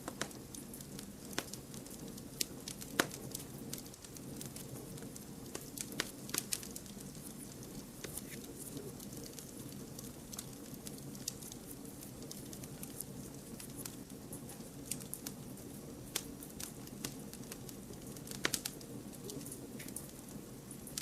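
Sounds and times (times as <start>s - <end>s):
flames rushing: 0.0s - 21.0s
wood fire crackling and popping: 0.0s - 21.0s.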